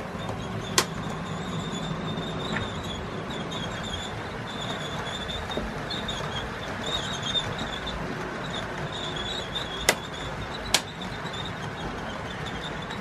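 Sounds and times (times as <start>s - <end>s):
high squeal: 0.0s - 13.0s
model train rolling: 0.0s - 13.0s.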